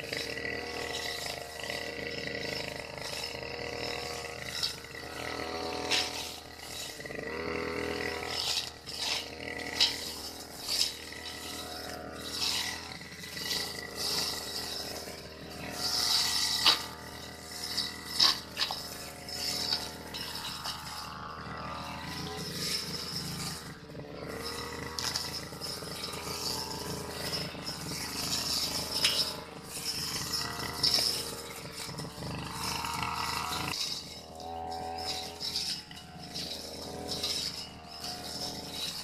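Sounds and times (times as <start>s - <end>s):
brush cutter engine running: 0.0s - 39.0s
cutter slashing through grass: 0.0s - 39.0s.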